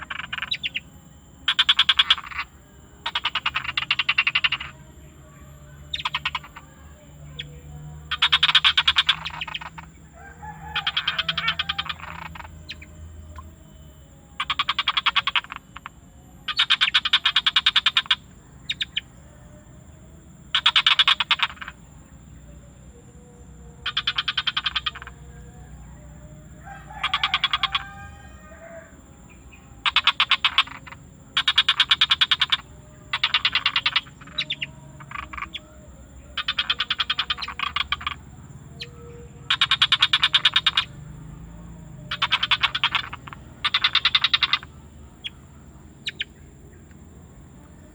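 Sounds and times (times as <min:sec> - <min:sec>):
frogs calling in pulsed trills: 0:00.0 - 0:47.9
lower frog call: 0:00.0 - 0:47.9.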